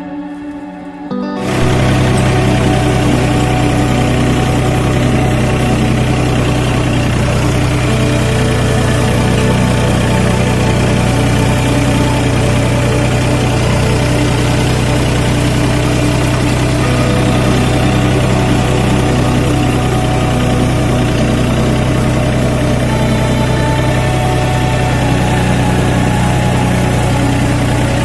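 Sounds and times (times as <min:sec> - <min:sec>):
tractor engine droning: 0:00.0 - 0:28.0.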